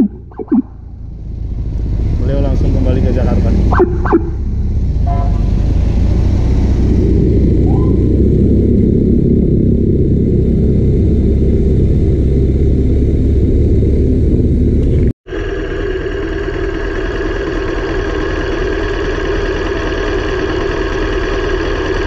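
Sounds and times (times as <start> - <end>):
steady engine hum: 0.0 - 22.0
vehicle engine and road rumble: 0.0 - 22.0.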